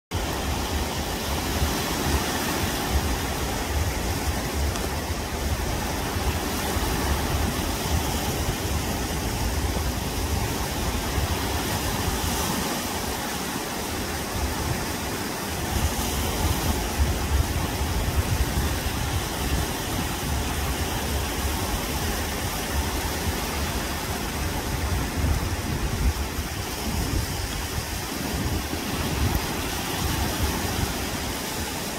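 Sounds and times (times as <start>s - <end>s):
small waves breaking: 0.1s - 31.9s.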